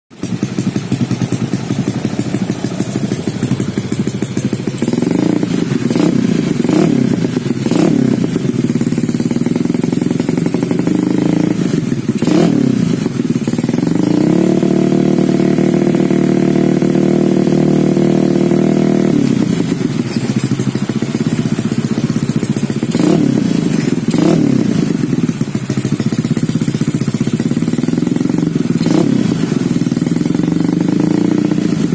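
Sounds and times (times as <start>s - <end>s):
scooter engine revving: 0.1s - 31.9s.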